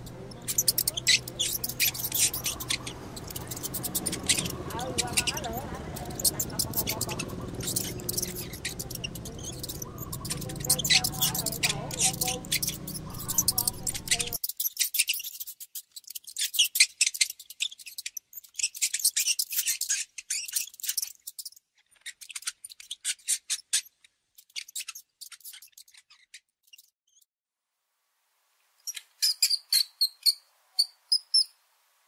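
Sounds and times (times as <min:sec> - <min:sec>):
mouse scratchy clicking and chittering: 0:00.0 - 0:27.3
mouse squeaks: 0:00.0 - 0:27.3, 0:28.8 - 0:31.6.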